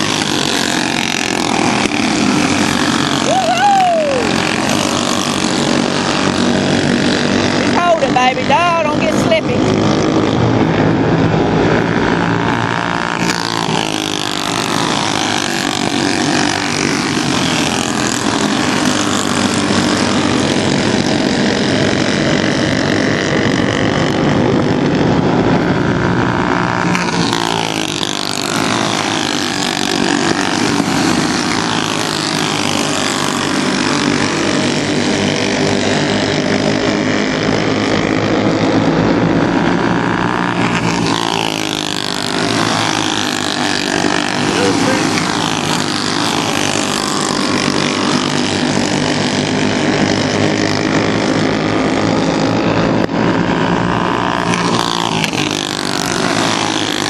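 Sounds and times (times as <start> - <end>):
racing engines passing: 0.0 - 23.8, 24.6 - 57.0.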